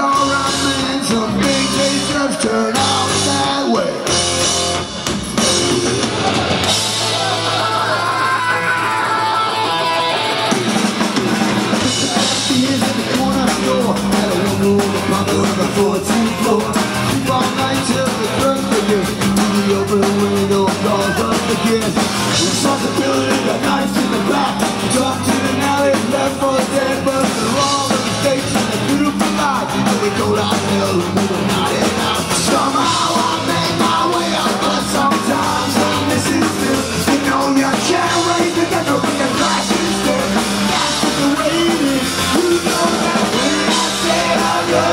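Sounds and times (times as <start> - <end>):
person singing: 0.0 - 4.1, 11.8 - 44.9
punk band playing loud: 0.0 - 44.9.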